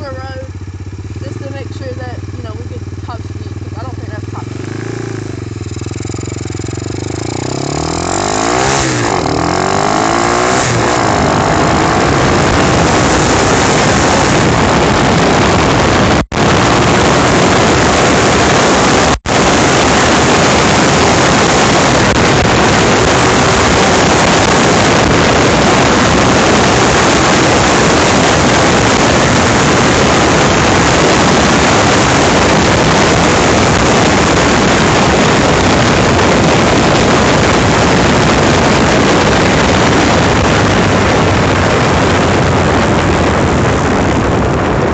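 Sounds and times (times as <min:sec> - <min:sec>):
dirt bike engine revving: 0:00.0 - 0:44.8
wind noise at speed: 0:00.0 - 0:44.9.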